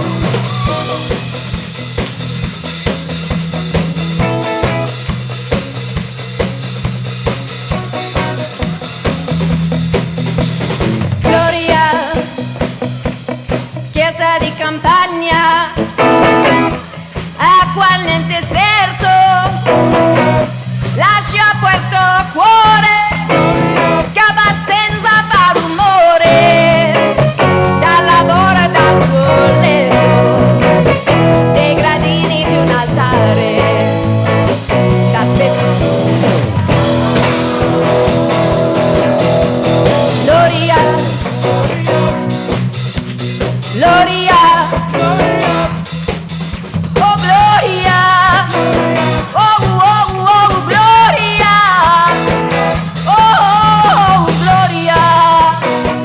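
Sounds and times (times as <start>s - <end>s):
pop-rock song with vocals: 0.0s - 56.0s.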